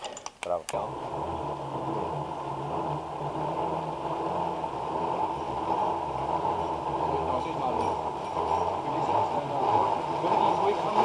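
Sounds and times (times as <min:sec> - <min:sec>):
zipline trolley humming on cable: 0:00.8 - 0:11.0.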